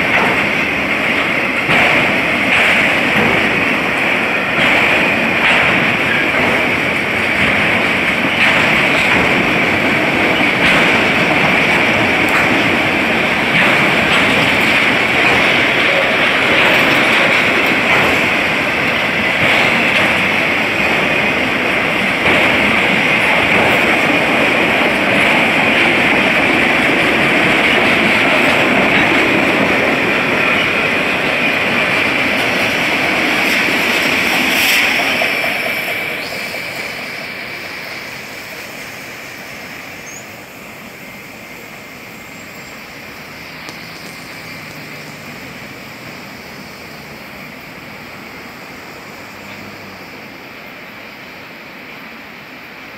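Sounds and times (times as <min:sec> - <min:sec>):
freight train rolling on rails: 0:00.0 - 0:52.9.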